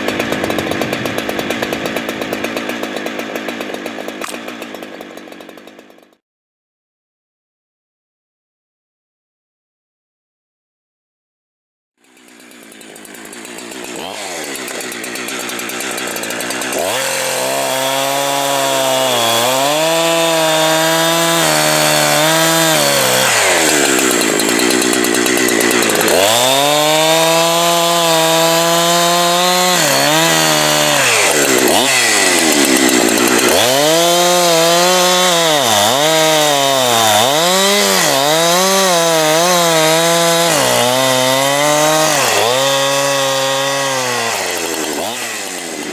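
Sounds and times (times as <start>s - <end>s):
chainsaw revving: 0.0s - 6.2s, 12.0s - 45.9s.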